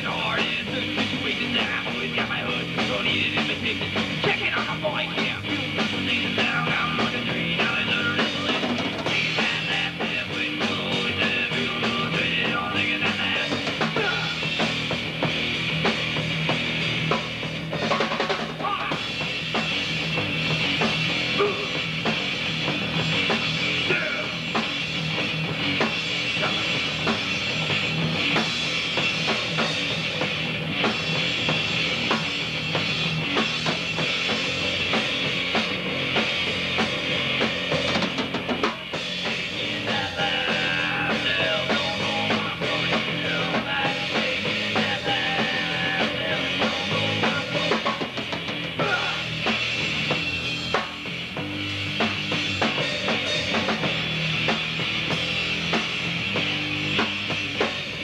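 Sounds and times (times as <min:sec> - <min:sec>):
fast drum hits: 0:00.0 - 0:58.0
punk band playing live: 0:00.0 - 0:58.0.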